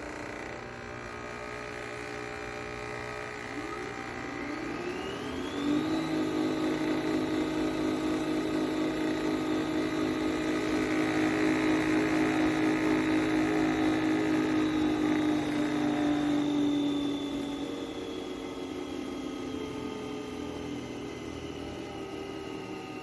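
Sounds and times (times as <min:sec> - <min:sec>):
coffee machine motor hum: 0:00.0 - 0:23.0
high whine: 0:00.0 - 0:23.0.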